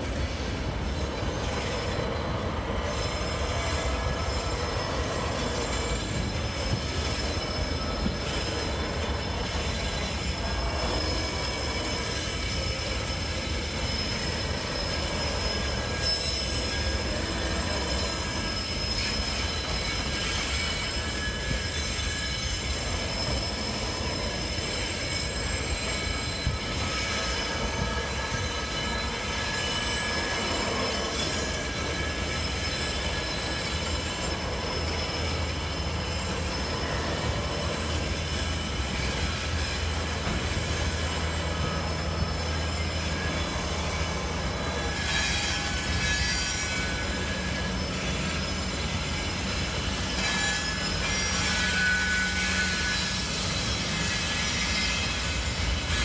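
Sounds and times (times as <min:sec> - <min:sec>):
train rumbling: 0:00.0 - 0:56.0
train wheels squealing on rails: 0:00.0 - 0:56.0.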